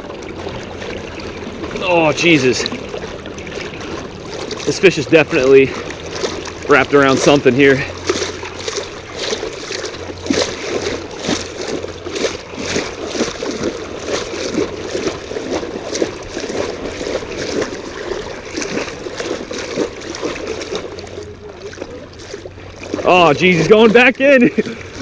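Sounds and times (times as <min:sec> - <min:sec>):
shallow water sloshing and splashing: 0:00.0 - 0:25.0.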